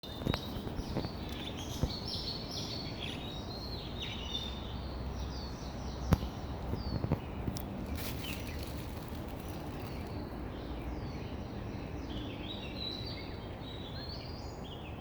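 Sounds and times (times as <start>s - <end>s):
outdoor background hum: 0.0s - 15.0s
small birds chirping: 0.0s - 15.0s.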